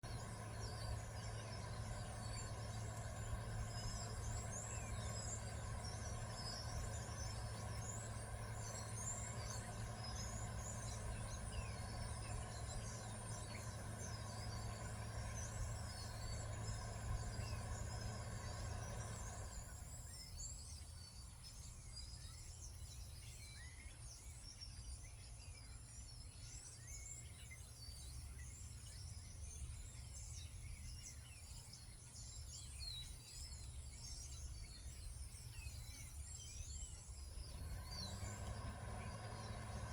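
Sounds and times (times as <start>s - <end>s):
small birds chirping: 0.0s - 39.9s
steady mechanical hum: 0.0s - 39.9s.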